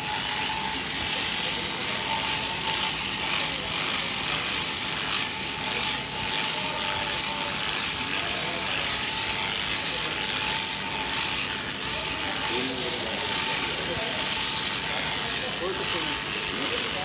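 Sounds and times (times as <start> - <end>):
shearing handpiece buzzing: 0.0 - 17.0.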